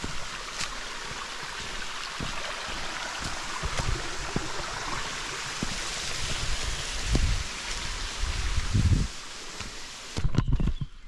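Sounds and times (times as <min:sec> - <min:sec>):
stream trickling over stones: 0:00.0 - 0:10.4.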